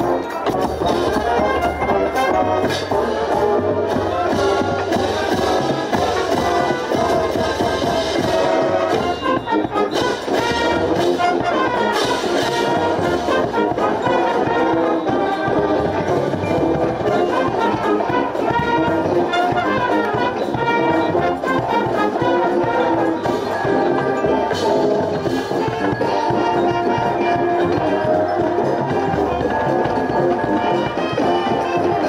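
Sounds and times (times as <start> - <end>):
brass section playing: 0.0 - 32.0
marching bass drums: 0.0 - 32.0.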